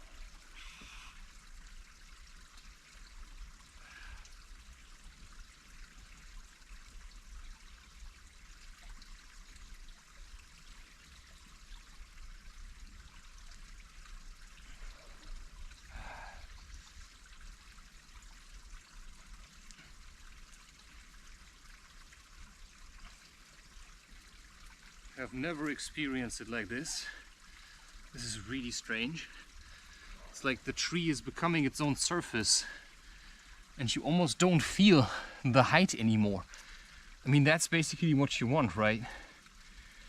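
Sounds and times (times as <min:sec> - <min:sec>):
running water hiss: 0:00.0 - 0:40.0.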